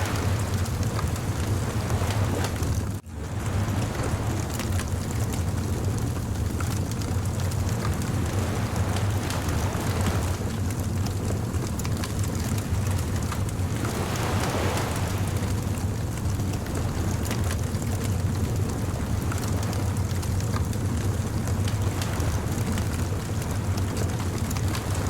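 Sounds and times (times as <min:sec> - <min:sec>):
bonfire crackling and popping: 0:00.0 - 0:25.0
surf washing: 0:00.0 - 0:25.0.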